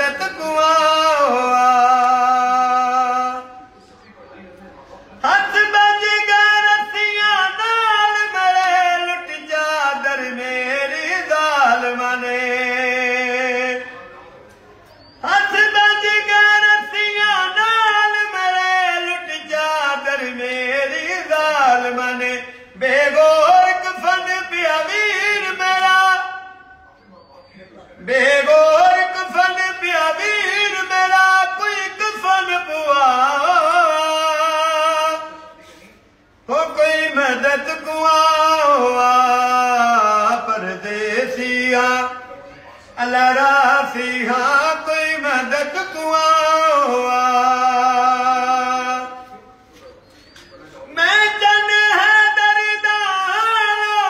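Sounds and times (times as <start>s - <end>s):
man singing a lament unaccompanied: 0.0s - 3.7s, 5.2s - 14.0s, 15.2s - 26.8s, 28.0s - 35.6s, 36.4s - 49.4s, 50.9s - 54.0s.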